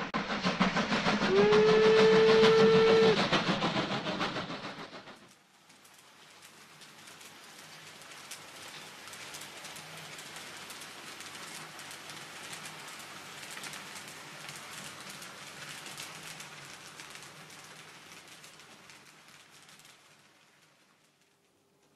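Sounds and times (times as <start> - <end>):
model train wheels clattering: 0.0 - 21.9.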